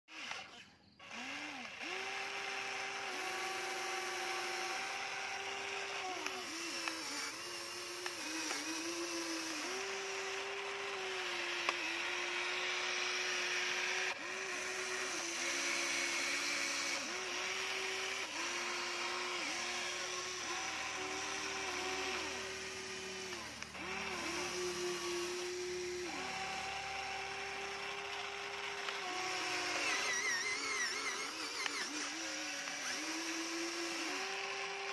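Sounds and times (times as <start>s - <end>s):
toy electric motors whining: 0.1s - 34.9s.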